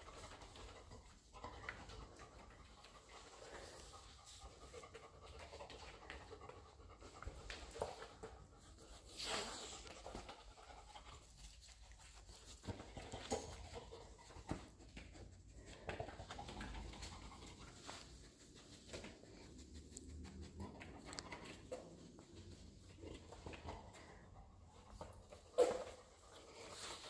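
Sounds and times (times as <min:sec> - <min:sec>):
dog panting and sniffing: 0:00.0 - 0:27.0.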